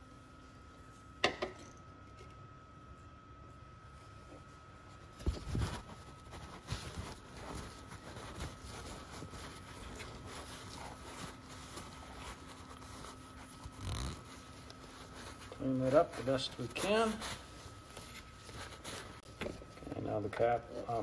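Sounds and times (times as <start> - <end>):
rag rustling and wiping: 3.9 - 21.0.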